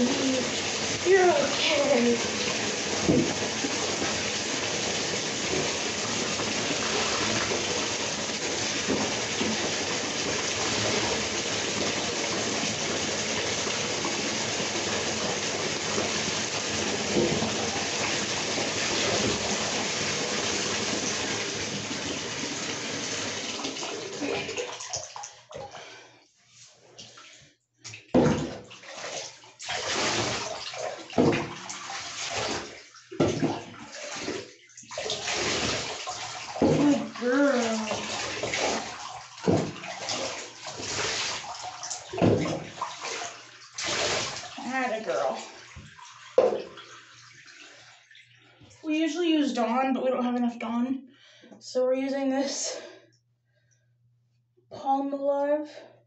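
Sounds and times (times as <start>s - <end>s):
water running from tap: 0.0s - 26.0s, 27.0s - 50.4s
water splashes: 0.0s - 26.2s, 27.0s - 50.0s.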